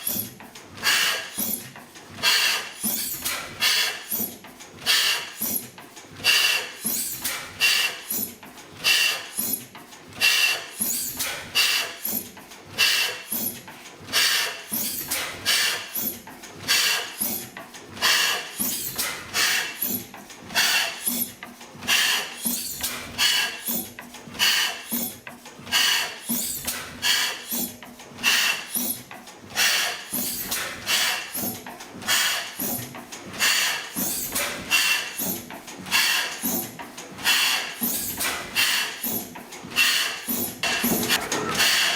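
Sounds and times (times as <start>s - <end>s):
stationary gas engine running: 0.0s - 41.9s.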